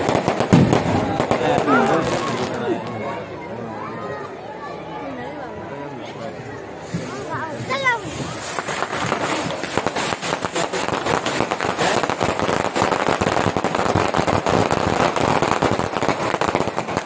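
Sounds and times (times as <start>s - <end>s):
firecrackers crackling: 0.0s - 3.3s, 6.6s - 17.0s.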